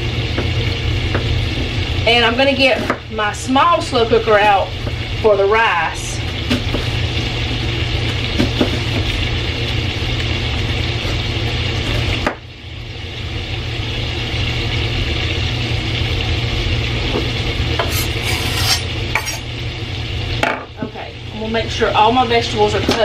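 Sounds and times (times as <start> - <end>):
sausage sizzling in a skillet: 0.0 - 23.0.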